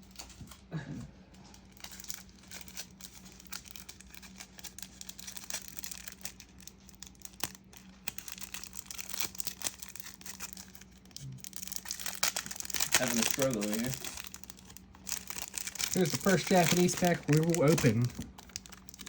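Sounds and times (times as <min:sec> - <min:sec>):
foil wrapper crinkling and tearing: 0:01.6 - 0:19.0.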